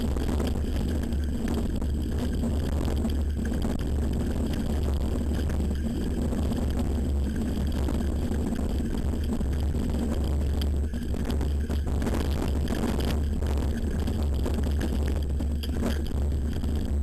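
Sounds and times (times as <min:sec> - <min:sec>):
bike tyres rolling on dirt: 0:00.0 - 0:17.0.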